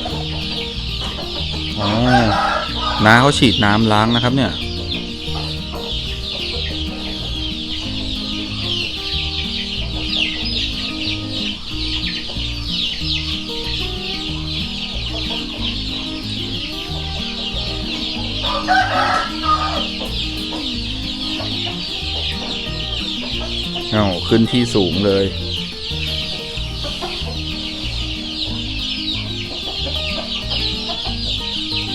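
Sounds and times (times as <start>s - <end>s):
chicken clucking: 0.0s - 31.9s
chicks peeping: 0.0s - 31.9s.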